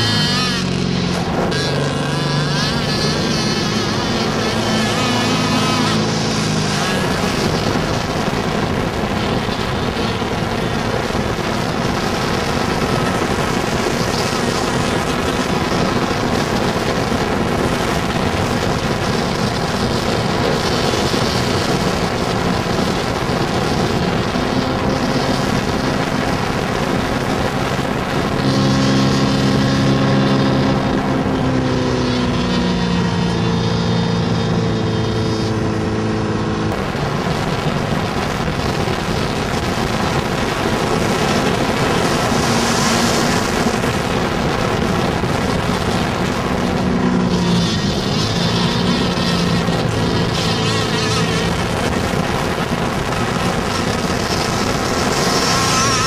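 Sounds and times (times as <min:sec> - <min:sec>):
two-stroke engine high revs: 0:00.0 - 0:56.0.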